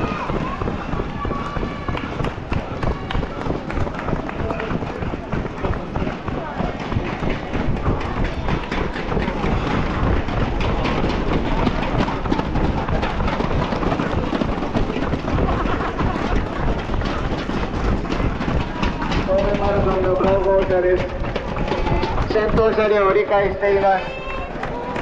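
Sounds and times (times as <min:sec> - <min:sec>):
faint voices: 0:00.0 - 0:25.0
wind rumbling on microphone: 0:00.0 - 0:25.0.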